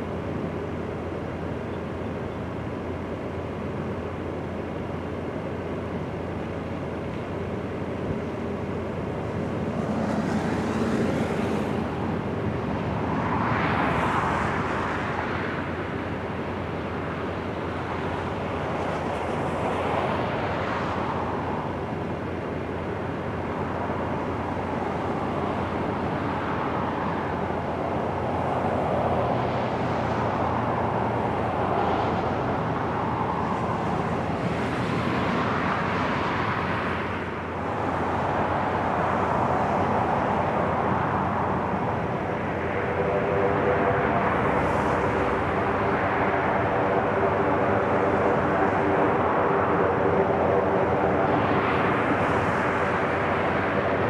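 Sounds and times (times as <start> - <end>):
propeller aircraft rumble: 0.0 - 54.0.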